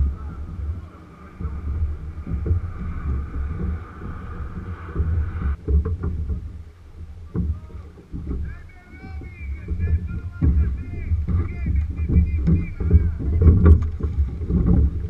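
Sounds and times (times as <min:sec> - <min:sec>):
boat and oar knocks: 0:00.0 - 0:15.0
water noise: 0:00.0 - 0:15.0
wind rumbling on microphone: 0:00.0 - 0:15.0.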